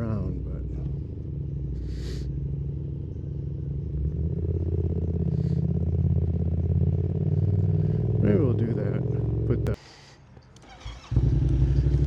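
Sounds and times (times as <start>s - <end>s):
motorcycle engine running: 0.0s - 9.8s, 11.1s - 12.0s.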